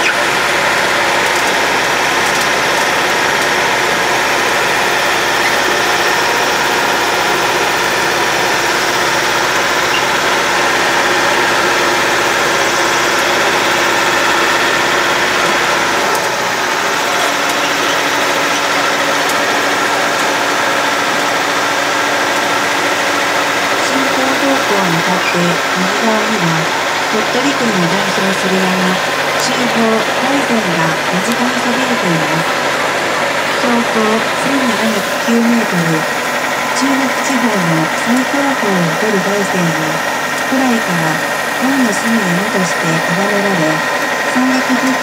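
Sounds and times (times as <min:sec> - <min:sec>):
road train engine running: 0:00.0 - 0:45.0.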